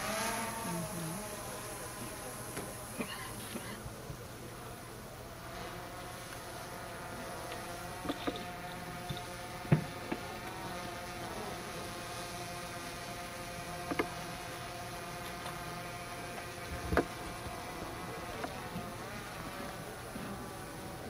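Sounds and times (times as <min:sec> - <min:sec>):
steady buzzing hum: 0:00.0 - 0:21.0.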